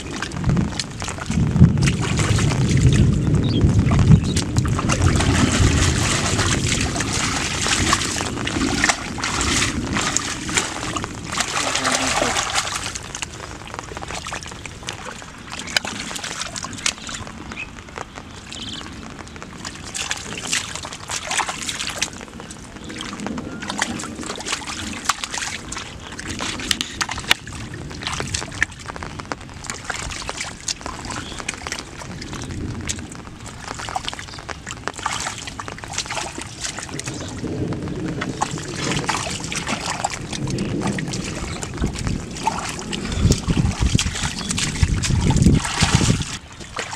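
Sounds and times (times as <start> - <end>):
muddy water splashing: 0.0 - 46.9.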